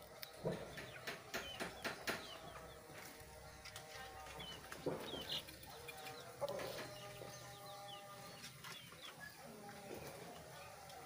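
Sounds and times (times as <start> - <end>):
background bird calls: 0.0 - 11.0.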